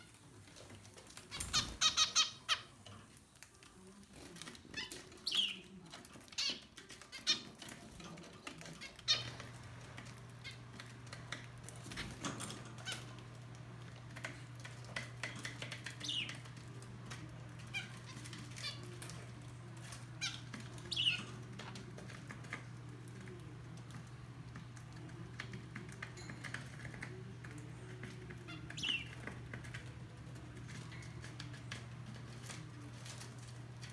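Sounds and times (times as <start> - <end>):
birds fluttering wings: 0.0 - 33.9.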